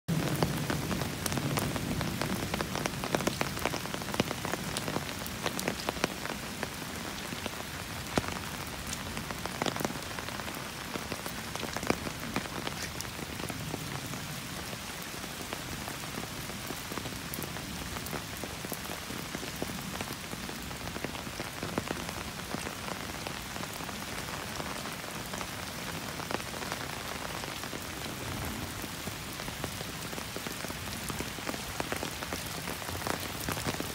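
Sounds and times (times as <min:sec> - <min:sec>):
rain on wet ground: 0:00.1 - 0:33.9.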